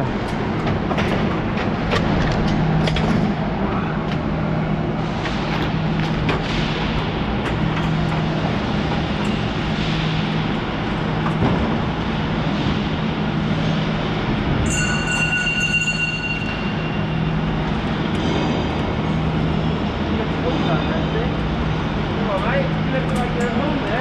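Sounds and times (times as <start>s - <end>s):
industrial machinery hum: 0.0s - 24.0s.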